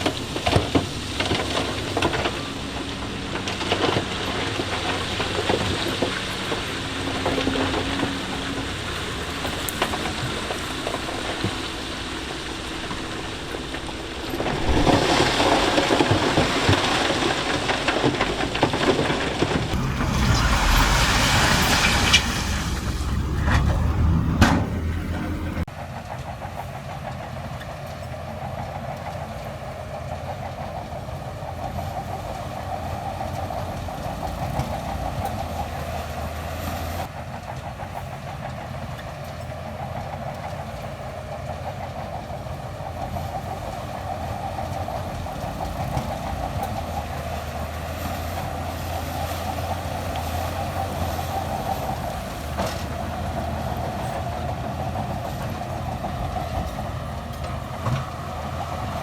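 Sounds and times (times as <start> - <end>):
diesel engine of earthmoving machine: 0.0 - 59.0.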